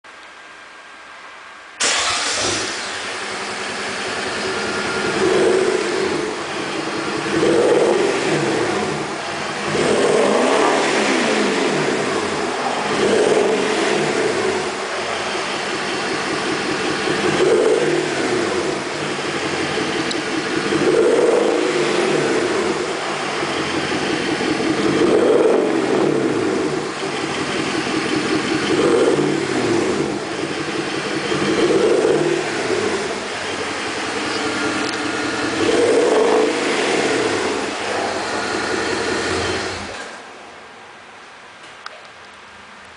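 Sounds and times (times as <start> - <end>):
diesel engine revving: 1.8 - 40.3.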